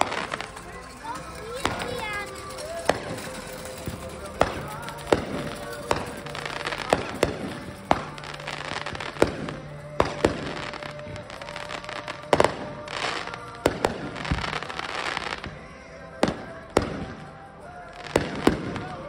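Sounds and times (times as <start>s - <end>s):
fireworks crackling: 0.0s - 19.0s
fireworks shells bursting: 0.0s - 19.0s.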